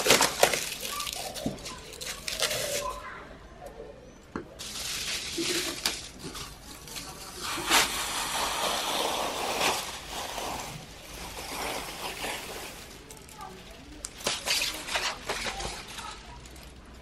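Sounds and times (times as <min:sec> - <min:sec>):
plastic sheet crinkling: 0:00.0 - 0:03.1, 0:04.6 - 0:17.0.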